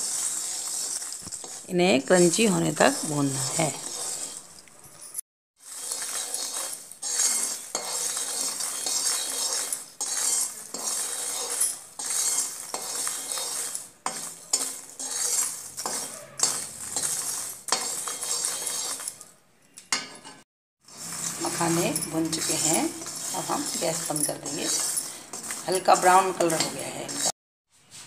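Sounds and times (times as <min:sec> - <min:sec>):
steel spoon scraping a pan: 0:00.0 - 0:27.4.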